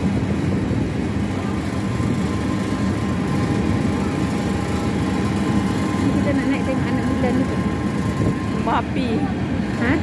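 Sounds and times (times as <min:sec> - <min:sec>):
engine and road rumble: 0:00.0 - 0:10.0
faint steady whine: 0:00.0 - 0:10.0.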